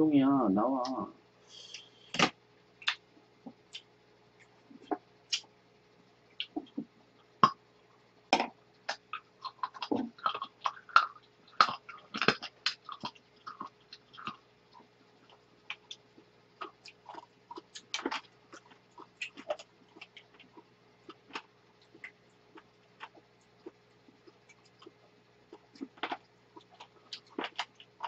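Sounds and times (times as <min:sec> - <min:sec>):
chewing and mouth clicks: 0:02.8 - 0:05.5, 0:06.3 - 0:07.6, 0:08.4 - 0:28.0.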